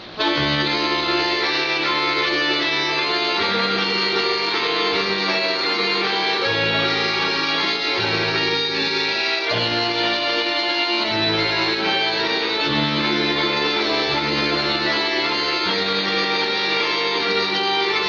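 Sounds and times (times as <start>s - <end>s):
accordion folk music: 0.0s - 18.0s
bass line: 0.2s - 18.0s.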